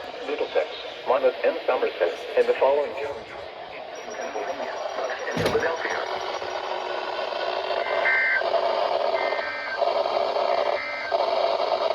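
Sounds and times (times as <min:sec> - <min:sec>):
radio receiver hiss: 0:00.0 - 0:11.9.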